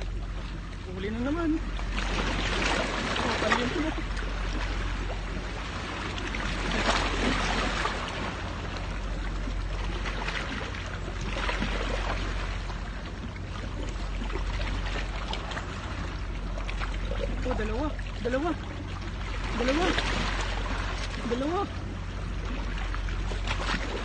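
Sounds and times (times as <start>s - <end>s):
steady low rumble: 0.0s - 24.0s
waves splashing against rocks: 0.0s - 24.0s.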